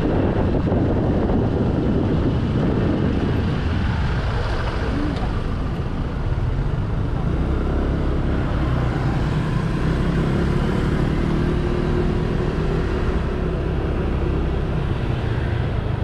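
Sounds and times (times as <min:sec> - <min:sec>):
road noise rumble: 0:00.0 - 0:16.0.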